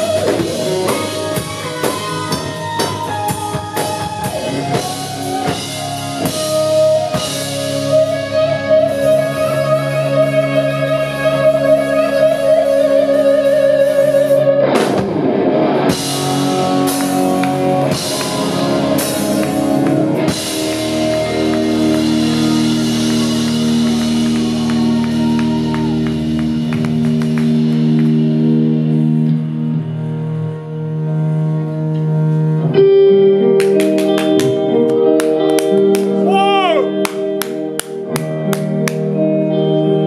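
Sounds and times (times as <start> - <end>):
drums: 0.0 - 29.8, 33.5 - 40.0
electric guitars: 0.0 - 40.0.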